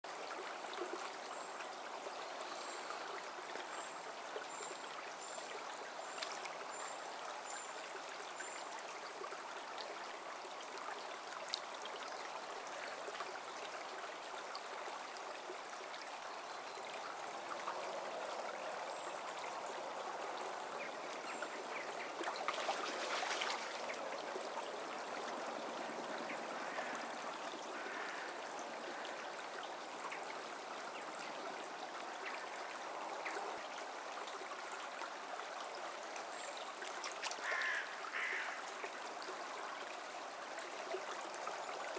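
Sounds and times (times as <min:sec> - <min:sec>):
stream running over stones: 0:00.0 - 0:41.9.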